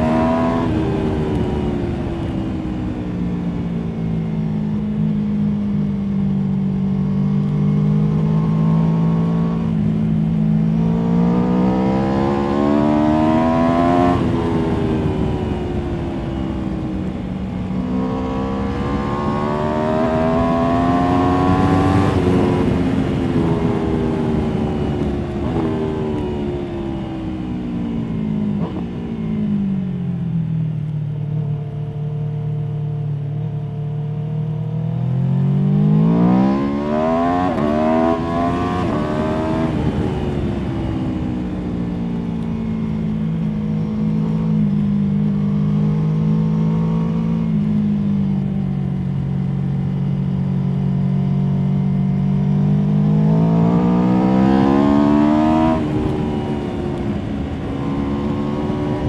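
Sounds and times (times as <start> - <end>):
motorcycle engine revving: 0.0 - 6.0, 6.6 - 59.0.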